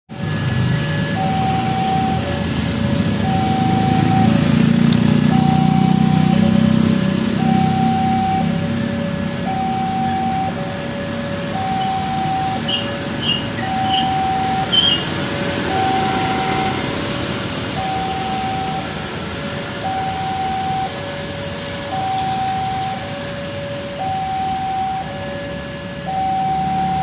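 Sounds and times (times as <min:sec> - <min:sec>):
level crossing two-tone siren: 0:00.1 - 0:27.0
road traffic: 0:00.1 - 0:27.0.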